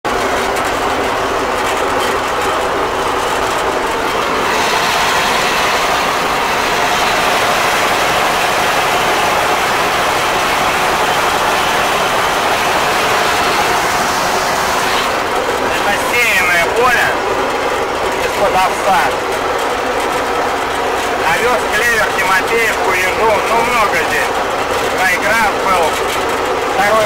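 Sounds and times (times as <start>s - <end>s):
mower engine clattering: 0.0s - 27.0s.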